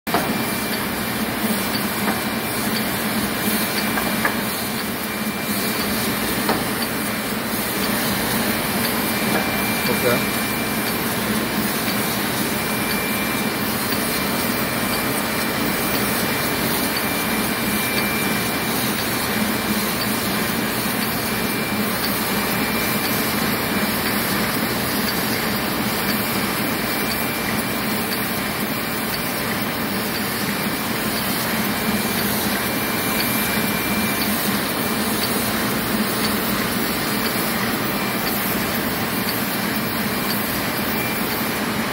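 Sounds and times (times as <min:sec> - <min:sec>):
printing press running: 0:00.1 - 0:41.9.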